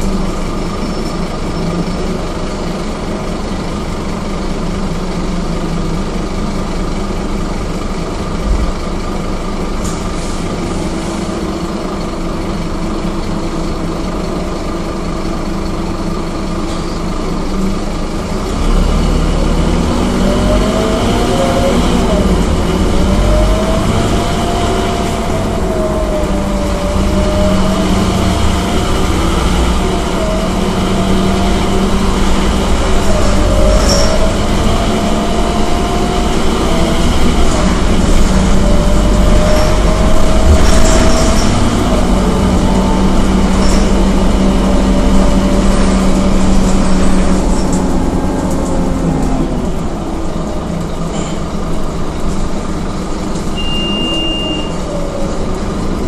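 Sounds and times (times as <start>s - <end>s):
bus engine and road rumble: 0.0s - 56.0s
bus whine: 0.0s - 56.0s.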